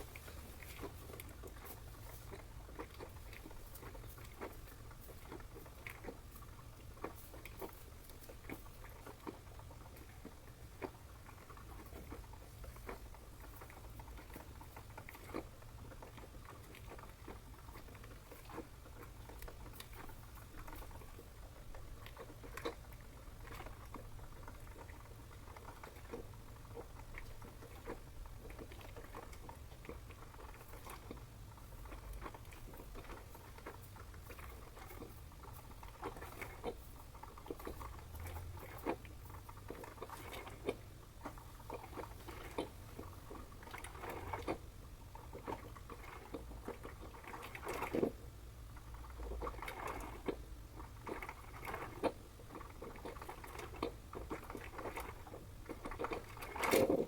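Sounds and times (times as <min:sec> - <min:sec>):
coffee maker crackling and popping: 0:00.0 - 0:57.0.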